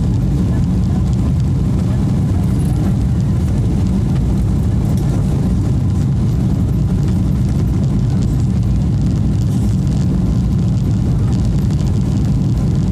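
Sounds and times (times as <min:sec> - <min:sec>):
engine and airflow noise: 0:00.0 - 0:12.9.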